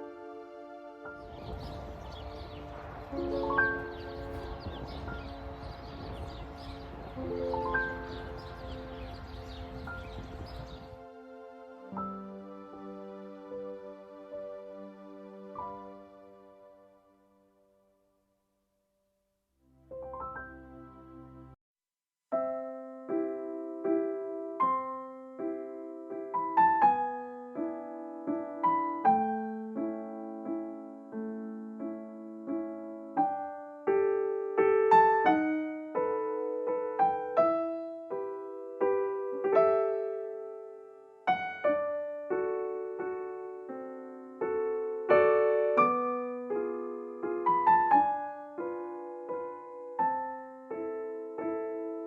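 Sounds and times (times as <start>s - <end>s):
soft solo piano music: 1.0s - 11.1s, 11.9s - 14.6s, 22.3s - 52.0s.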